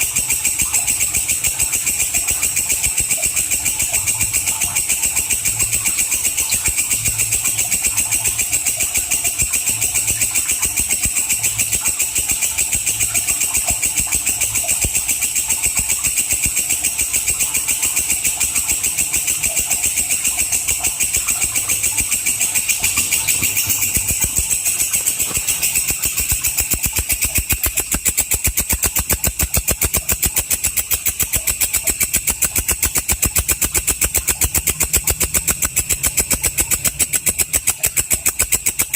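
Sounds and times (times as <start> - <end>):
katydid buzzing trill: 0.0 - 38.9.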